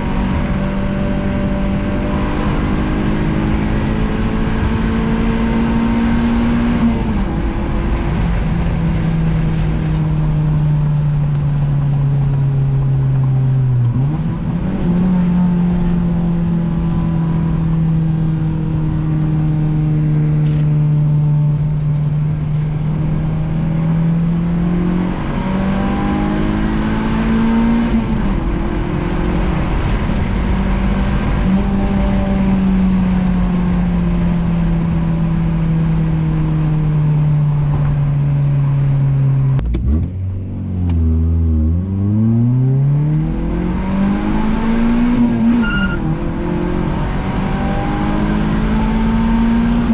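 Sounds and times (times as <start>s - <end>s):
car engine accelerating: 0.0s - 49.9s
road noise: 0.0s - 49.9s.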